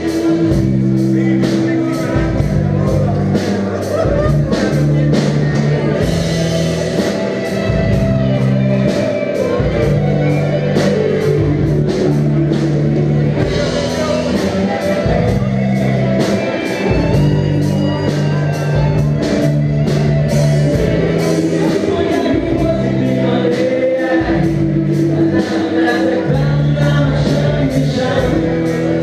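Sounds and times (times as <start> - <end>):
bass guitar: 0.0 - 29.0
drum kit beat: 0.0 - 29.0
electric guitars: 0.0 - 29.0
person singing: 0.0 - 29.0.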